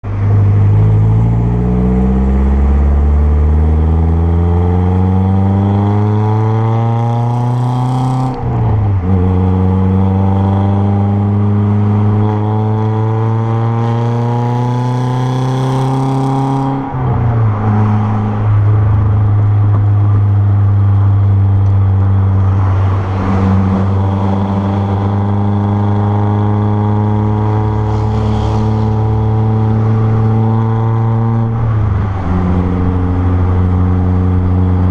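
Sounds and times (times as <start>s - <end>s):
car engine accelerating: 0.0s - 34.9s.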